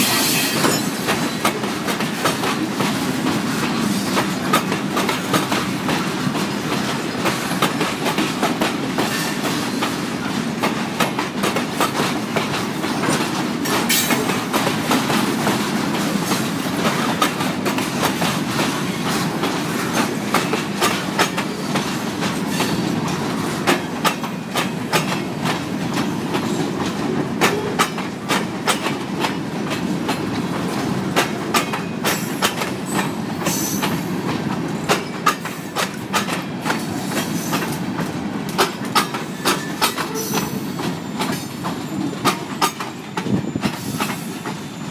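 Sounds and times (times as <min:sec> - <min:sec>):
train wheels rumbling on rail: 0:00.0 - 0:44.9
wheels clicking over rail joints: 0:00.4 - 0:44.6.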